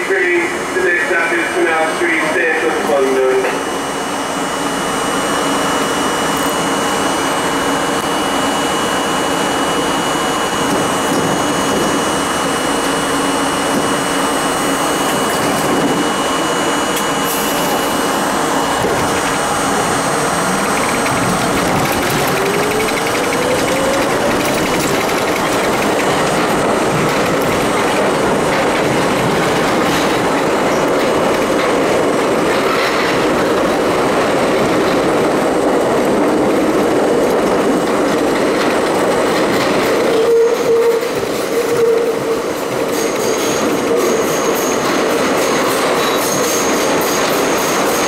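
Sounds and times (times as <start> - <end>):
subway train humming: 0.0 - 48.0
train whine accelerating: 0.0 - 48.0.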